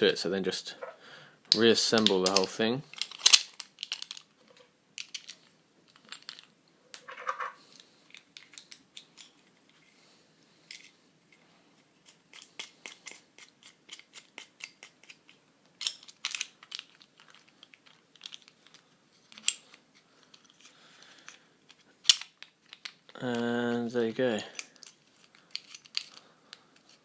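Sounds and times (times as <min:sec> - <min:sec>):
small plastic parts clicking: 0:01.5 - 0:09.4, 0:12.0 - 0:23.9, 0:24.5 - 0:27.0.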